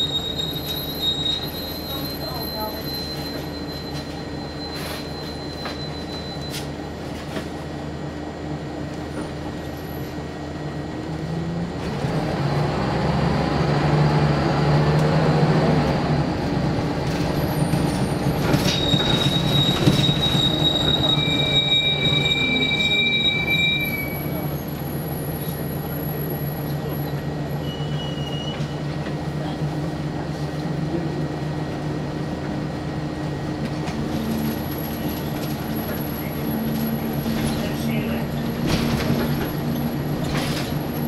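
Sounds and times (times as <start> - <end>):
bus diesel engine: 0.0 - 41.0.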